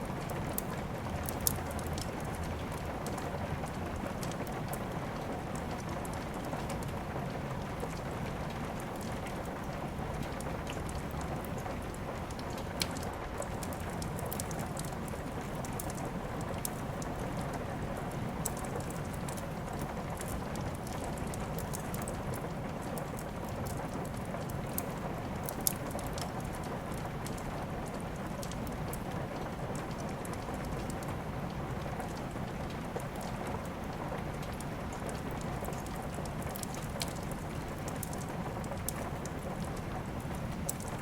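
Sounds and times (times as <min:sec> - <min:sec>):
steady rain: 0:00.0 - 0:41.0
wood fire crackling: 0:00.1 - 0:41.0.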